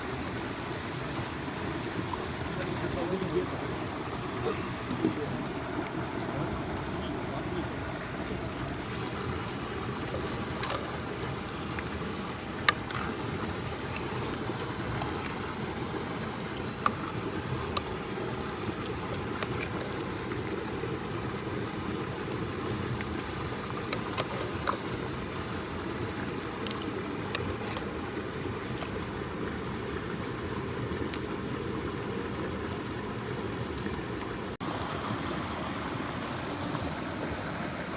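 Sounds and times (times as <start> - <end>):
stream water rushing: 0.0 - 37.9.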